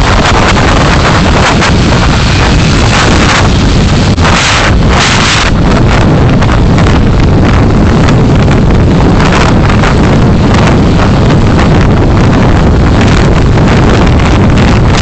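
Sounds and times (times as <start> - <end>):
car driving rumble: 0.0 - 15.0
road and wind noise: 0.0 - 15.0.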